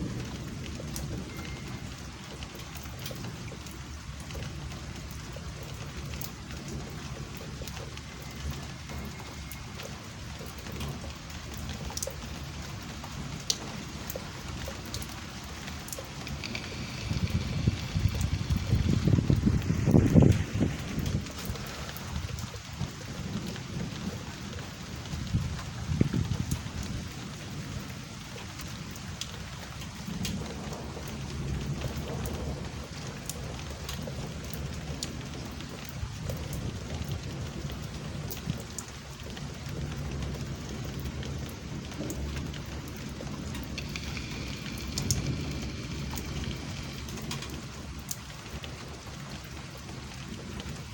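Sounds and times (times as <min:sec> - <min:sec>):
low thunder rumble: 0:00.0 - 0:50.9
raindrops ticking close by: 0:00.0 - 0:50.9
steady rain: 0:00.0 - 0:50.9.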